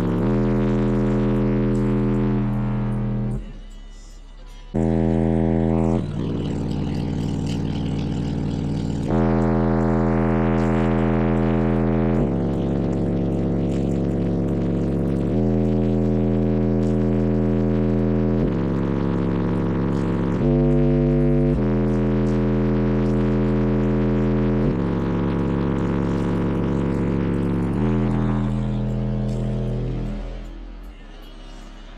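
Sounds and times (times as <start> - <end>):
distorted subwoofer bass notes: 0.0 - 3.9, 4.7 - 31.9.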